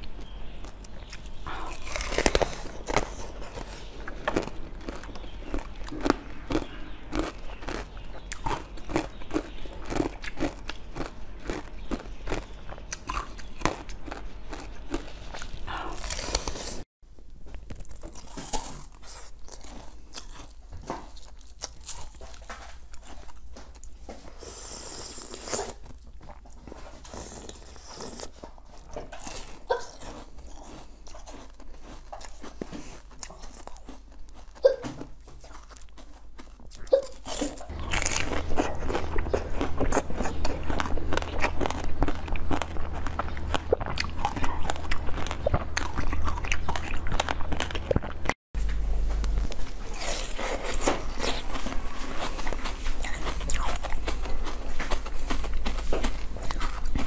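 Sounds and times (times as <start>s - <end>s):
biting and chewing soft dessert: 0.0s - 57.0s
crunchy chewing of seeds: 0.0s - 57.0s.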